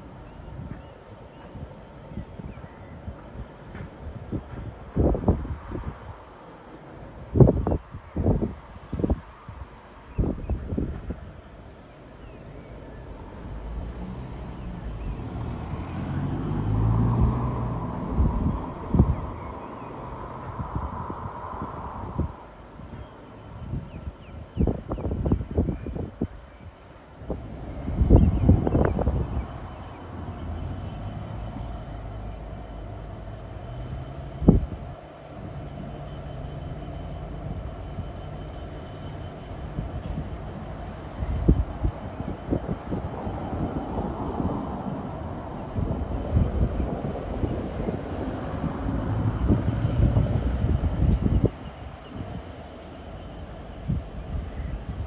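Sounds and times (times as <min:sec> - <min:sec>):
diesel locomotive engine running: 0:10.6 - 0:55.0.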